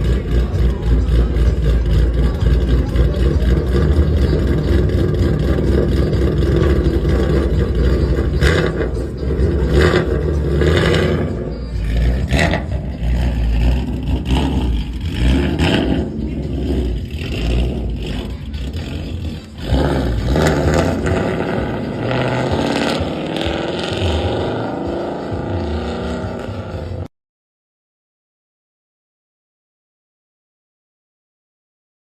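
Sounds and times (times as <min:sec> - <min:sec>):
car engine revving through exhaust: 0:00.0 - 0:27.1.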